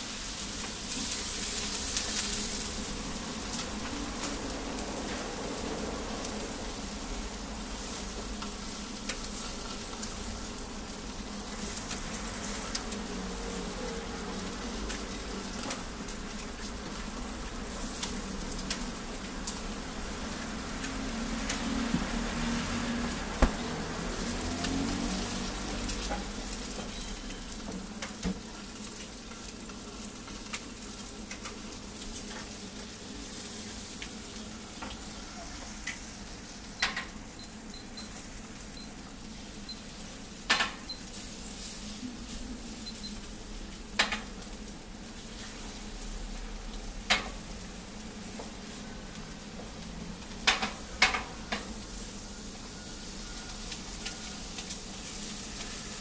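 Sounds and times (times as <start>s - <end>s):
batter sizzling on a griddle: 0.0s - 56.0s.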